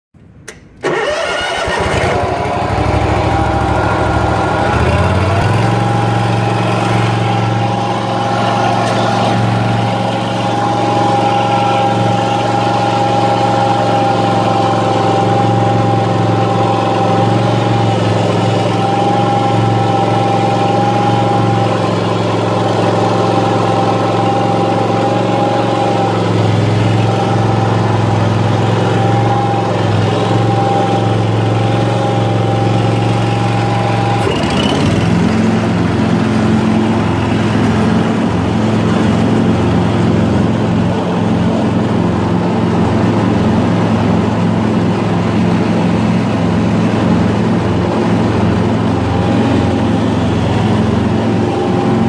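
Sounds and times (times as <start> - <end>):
lawn mower engine starting and running: 0.2 - 52.0.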